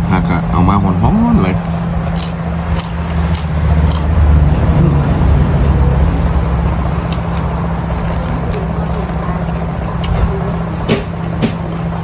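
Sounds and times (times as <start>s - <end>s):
low motor drone: 0.0s - 12.0s.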